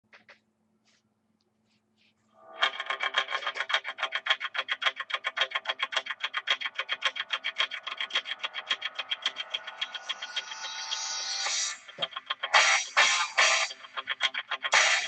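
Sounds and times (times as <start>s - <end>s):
intro music with fast pulse: 2.4s - 15.0s.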